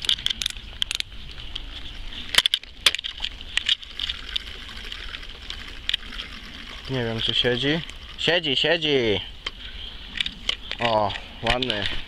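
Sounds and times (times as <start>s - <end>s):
fishing rod handling rustle: 0.0s - 12.0s.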